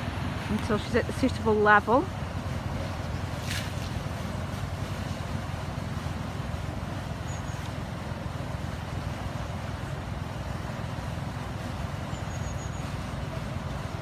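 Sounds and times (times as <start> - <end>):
water rushing into a lock: 0.0 - 14.0.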